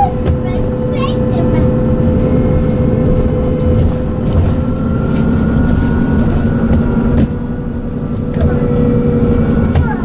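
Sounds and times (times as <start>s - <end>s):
bus engine drone with whine: 0.0s - 10.0s.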